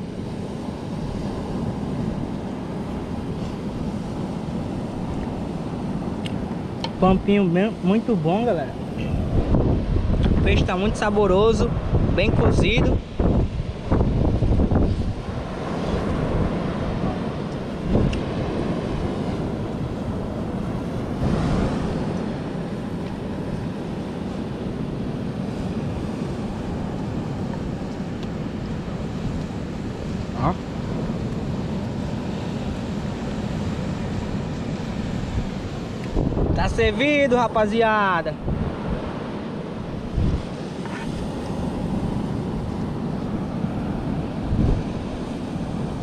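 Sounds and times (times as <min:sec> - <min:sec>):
wind buffeting the microphone: 0:00.0 - 0:46.0.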